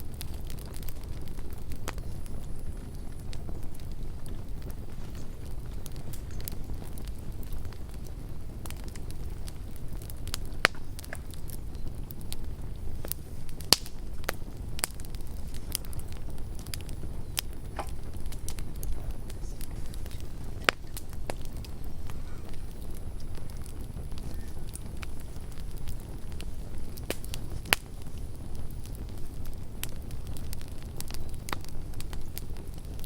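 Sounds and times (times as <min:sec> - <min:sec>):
campfire crackling and popping: 0:00.0 - 0:33.0
loud fire snaps: 0:00.0 - 0:33.0
low steady rumble: 0:00.0 - 0:33.0.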